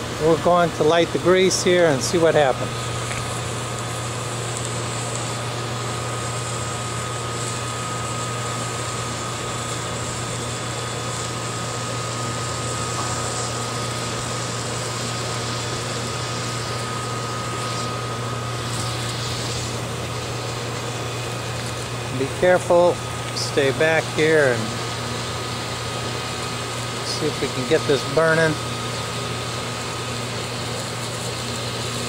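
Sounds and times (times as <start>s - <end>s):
motor humming: 0.0s - 32.0s
thin high whine: 0.0s - 32.0s.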